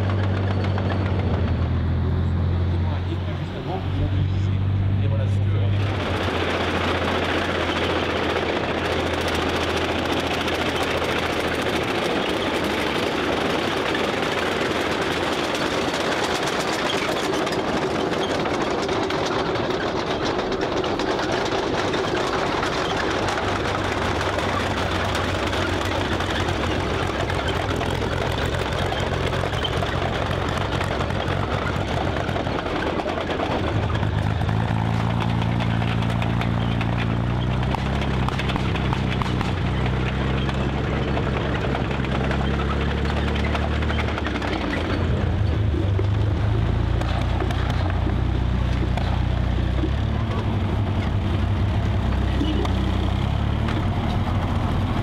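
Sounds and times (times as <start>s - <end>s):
tank engine driving past: 0.0s - 55.0s.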